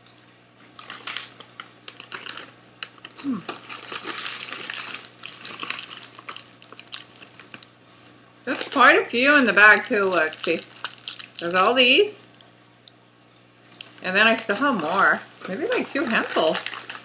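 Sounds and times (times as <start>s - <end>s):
plastic packaging crinkling: 0.6s - 12.5s, 13.6s - 17.0s.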